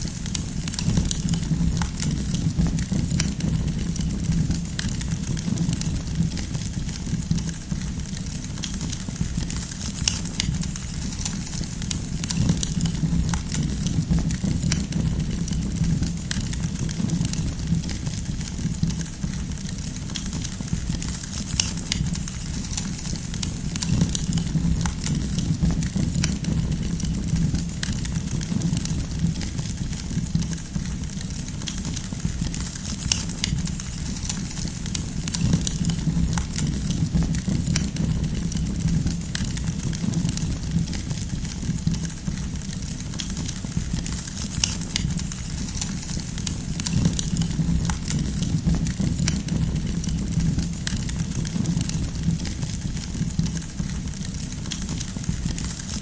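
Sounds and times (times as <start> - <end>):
firewood crackling and popping: 0.0 - 56.0
low rumble of flames: 0.0 - 56.0.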